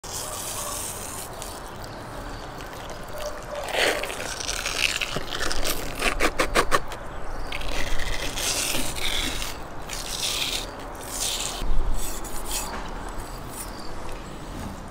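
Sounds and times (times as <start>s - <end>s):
wet squelching and scraping: 0.0s - 14.5s.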